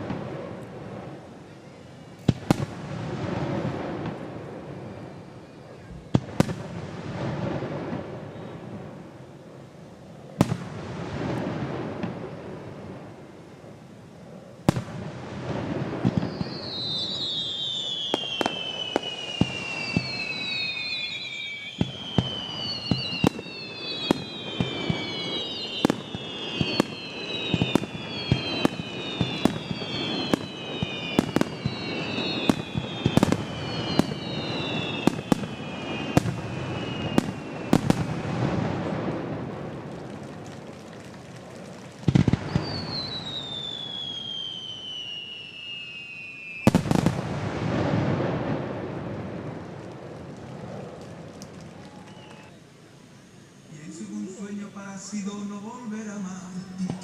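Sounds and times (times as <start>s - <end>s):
fireworks bursting with sharp bangs: 0.0s - 52.8s, 53.5s - 57.0s
firework whistles falling in pitch: 1.6s - 9.1s, 14.6s - 57.0s.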